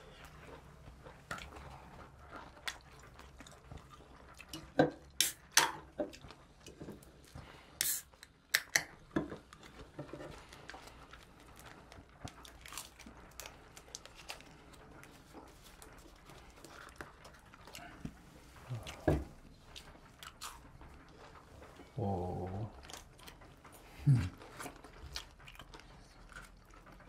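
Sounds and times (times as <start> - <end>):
people chewing pizza: 0.0 - 27.0.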